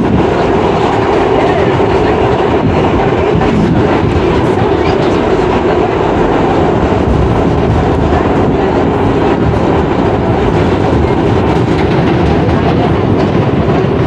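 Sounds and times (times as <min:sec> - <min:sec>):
steady hum: 0:00.0 - 0:14.0
subway wheels rumbling on rail: 0:00.0 - 0:14.0.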